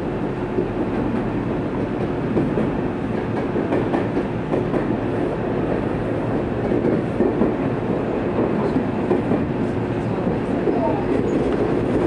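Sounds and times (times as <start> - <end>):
train wheels rolling on rails: 0.0 - 12.0
clacks over rail joints: 0.5 - 12.0.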